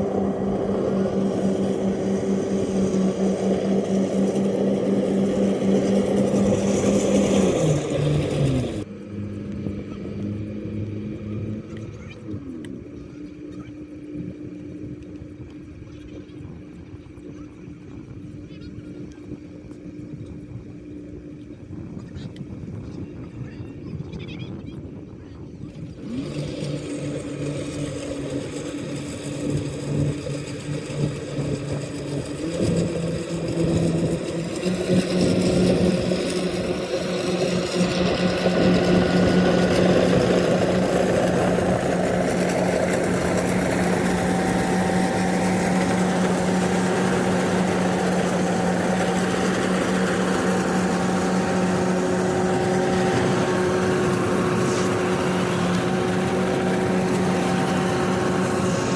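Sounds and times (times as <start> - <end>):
combine harvester engine running: 0.0 - 22.3, 25.7 - 58.9.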